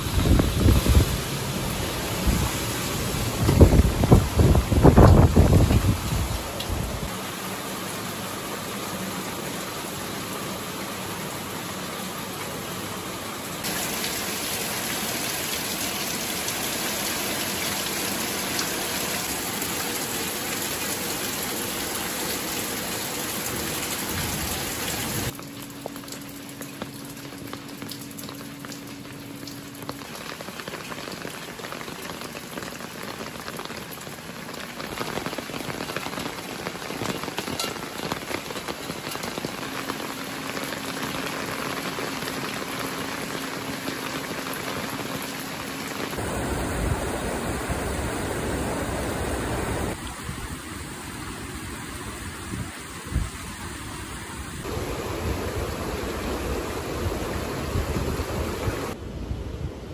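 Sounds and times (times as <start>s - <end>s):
heavy rain on leaves: 0.0s - 59.0s
rain drips: 0.0s - 59.0s.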